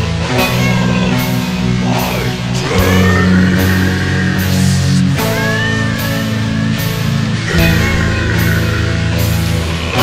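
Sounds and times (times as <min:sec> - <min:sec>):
heavy low metal chords: 0:00.1 - 0:10.0.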